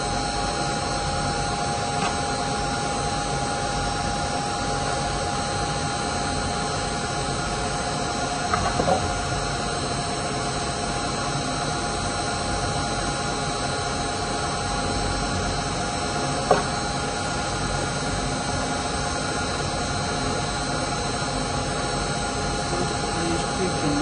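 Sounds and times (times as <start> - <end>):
machine hum and hiss: 0.0 - 24.0.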